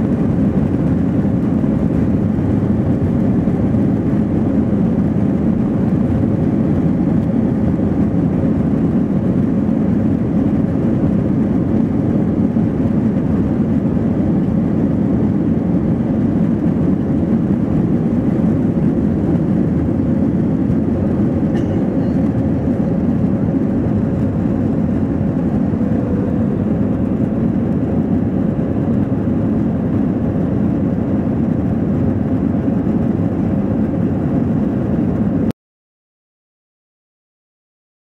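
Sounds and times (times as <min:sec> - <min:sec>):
airliner cabin engine noise: 0:00.0 - 0:35.5.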